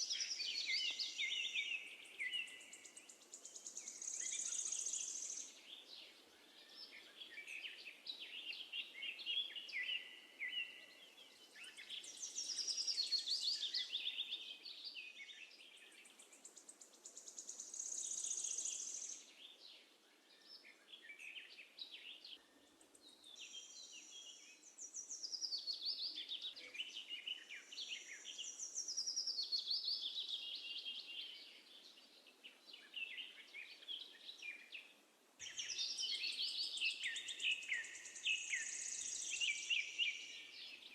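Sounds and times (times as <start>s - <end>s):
sparrows chirping and trilling: 0.0s - 40.9s.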